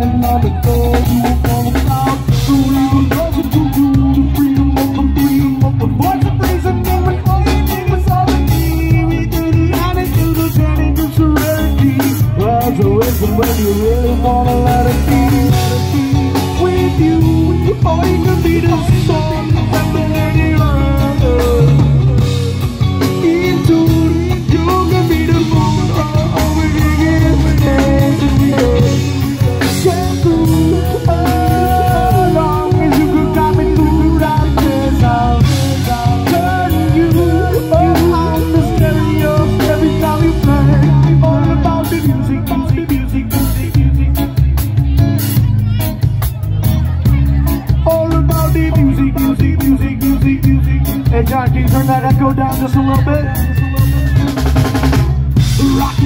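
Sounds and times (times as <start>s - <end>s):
drum kit: 0.0s - 56.0s
electric bass: 0.0s - 56.0s
electric guitar: 0.0s - 56.0s
live rock band playing: 0.0s - 56.0s
man singing into a microphone: 0.0s - 56.0s.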